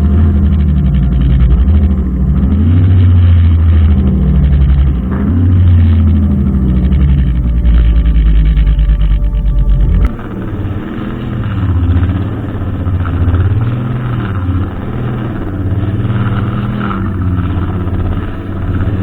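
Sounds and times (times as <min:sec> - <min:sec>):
brushcutter engine running: 0:00.0 - 0:19.0.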